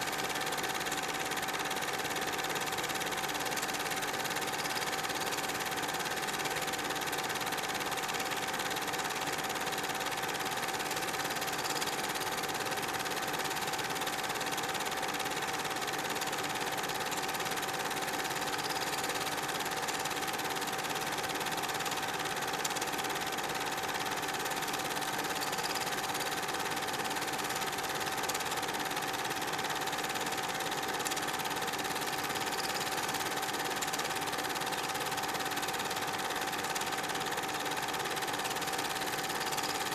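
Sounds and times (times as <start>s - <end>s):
film projector whirring and rattling: 0.0s - 39.9s.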